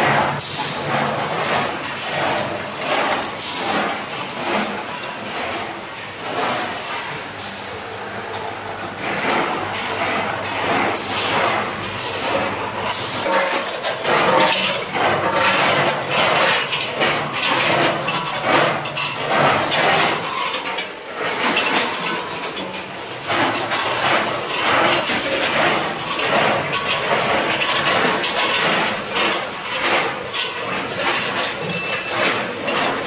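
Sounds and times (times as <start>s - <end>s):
conveyor and weigher machine noise: 0.0s - 33.0s.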